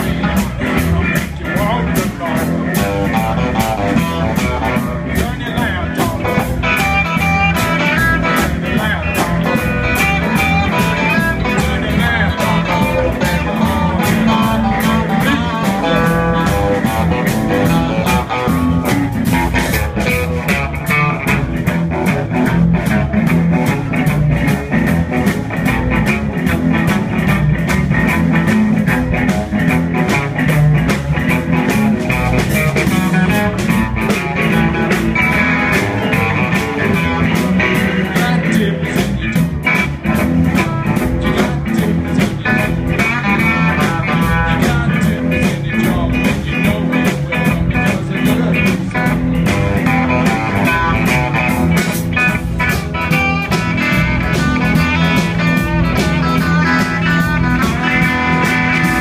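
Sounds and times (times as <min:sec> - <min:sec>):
electric blues band playing: 0:00.0 - 0:59.0.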